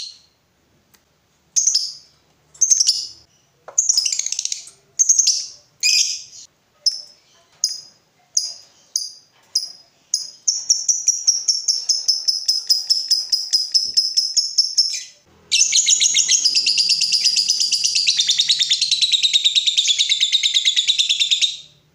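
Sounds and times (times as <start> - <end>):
lovebird chirping and trilling: 1.6 - 21.8.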